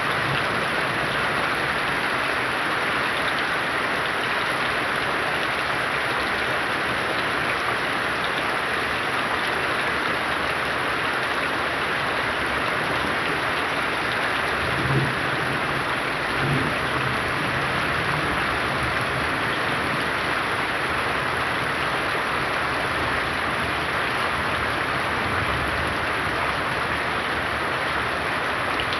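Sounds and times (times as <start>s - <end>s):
heavy rain hissing: 0.0s - 28.9s.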